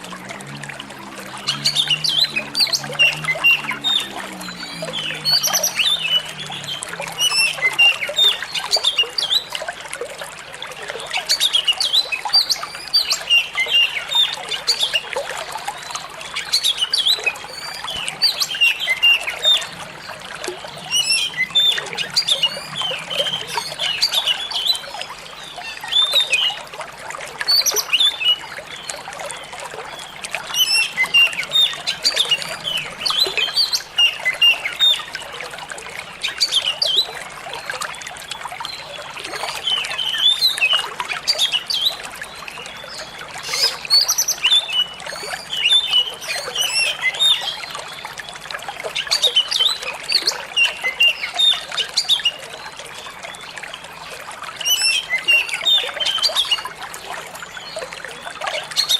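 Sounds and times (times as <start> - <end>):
trickling water: 0.0 - 58.9.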